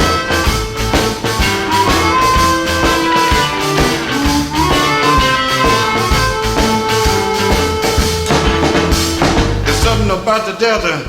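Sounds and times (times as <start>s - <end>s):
electric blues band playing: 0.0s - 11.0s.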